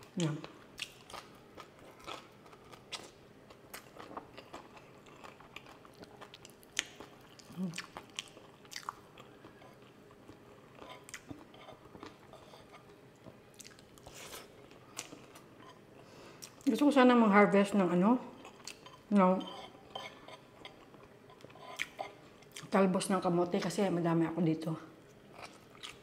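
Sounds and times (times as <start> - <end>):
person chewing and eating: 0.2 - 16.7, 18.4 - 22.7, 25.1 - 26.0.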